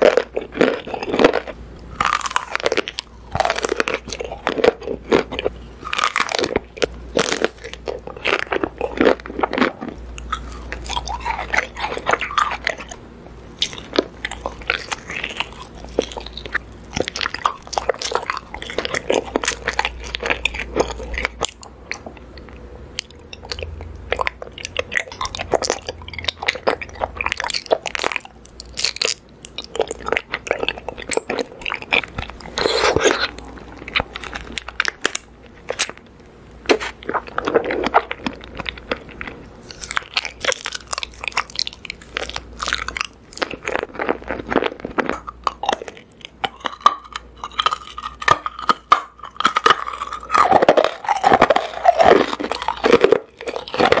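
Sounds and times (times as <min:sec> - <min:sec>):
crunchy bites and chewing: 0:00.0 - 0:54.0.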